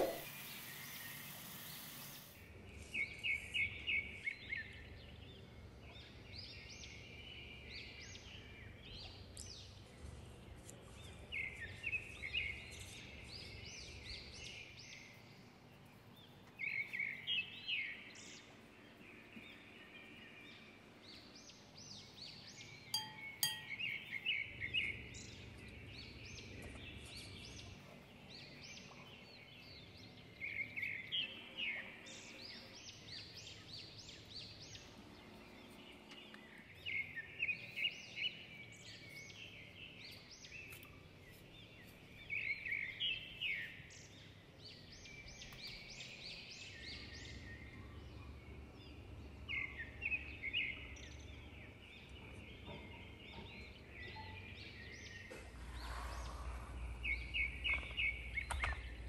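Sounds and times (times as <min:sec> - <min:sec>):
birds chirping: 0:00.0 - 0:59.0
faint low hum: 0:02.4 - 0:59.0.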